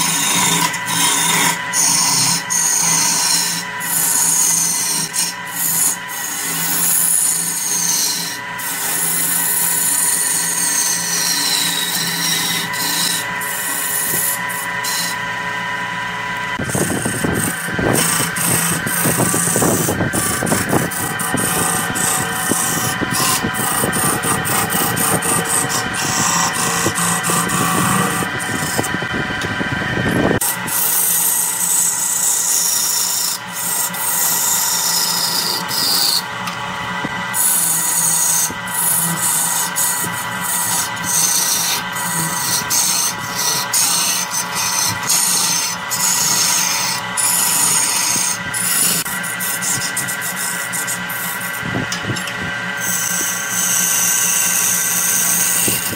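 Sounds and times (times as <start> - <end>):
gouge scraping spinning wood: 0.0 - 55.9
wood lathe hum: 0.0 - 55.9.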